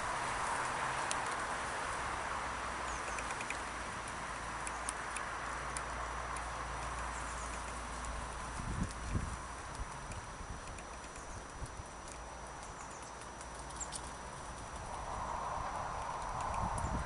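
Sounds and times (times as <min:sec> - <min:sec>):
outdoor background rush: 0:00.0 - 0:17.0
faint high ticks: 0:01.0 - 0:01.5, 0:02.9 - 0:17.0.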